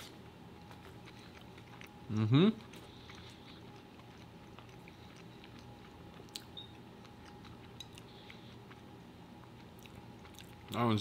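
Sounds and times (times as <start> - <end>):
faint chewing with wet mouth clicks: 0.6 - 10.8.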